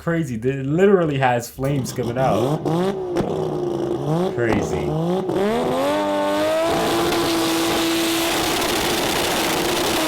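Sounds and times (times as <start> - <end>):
racing car engine at full throttle: 1.8 - 10.0.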